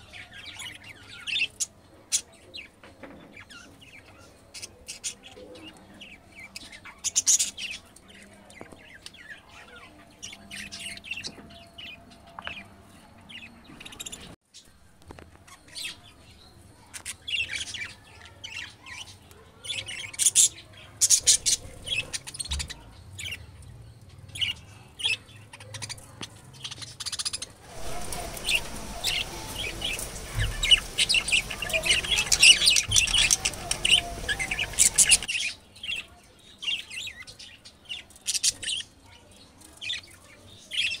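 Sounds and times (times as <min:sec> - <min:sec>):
budgerigars chirping and chattering: 0:00.0 - 0:14.4, 0:15.4 - 0:39.0, 0:39.6 - 0:41.0.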